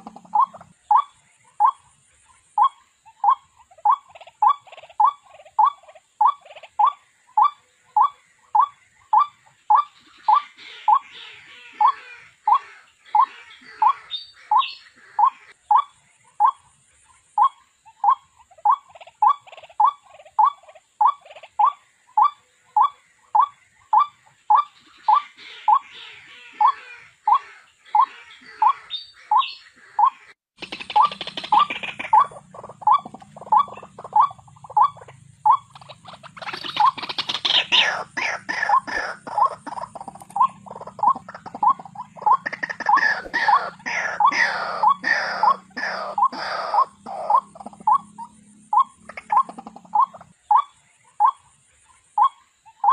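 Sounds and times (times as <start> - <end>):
waterhen call: 0.0 - 16.6, 17.4 - 52.9.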